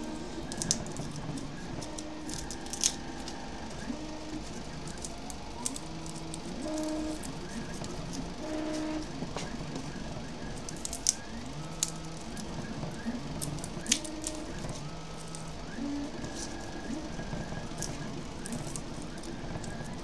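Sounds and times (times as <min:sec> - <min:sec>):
faint pitched background tones: 0:00.0 - 0:20.0
garlic skins crackling: 0:00.0 - 0:20.0.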